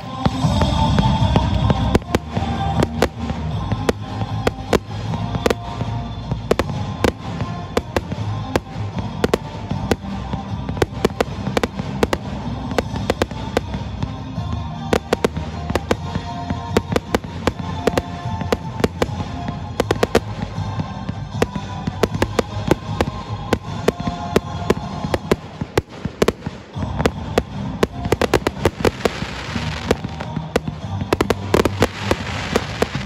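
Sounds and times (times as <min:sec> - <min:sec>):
music playing: 0:00.0 - 0:33.0.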